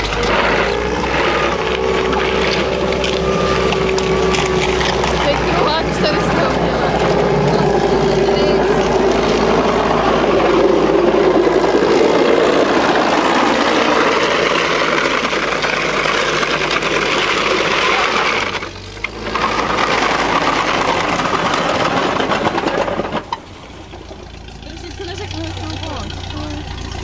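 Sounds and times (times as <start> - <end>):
metal tracks clattering: 0.0 - 26.8
tracked vehicle engine running: 0.0 - 27.0.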